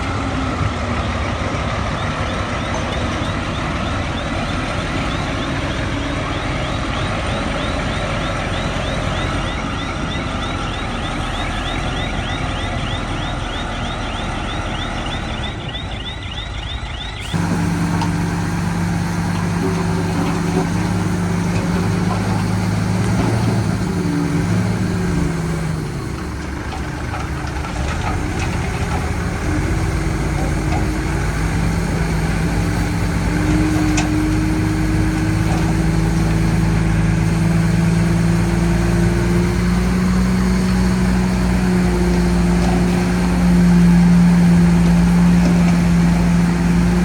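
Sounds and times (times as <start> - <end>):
deep diesel engine drone: 0.0 - 47.0
heavy diesel machinery running: 0.0 - 47.0.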